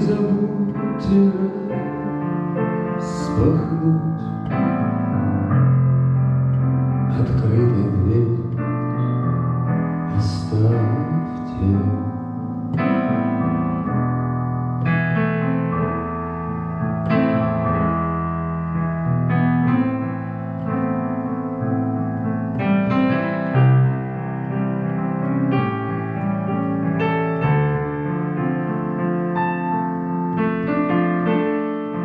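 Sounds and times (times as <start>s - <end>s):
piano-sound keyboard music: 0.0s - 32.0s.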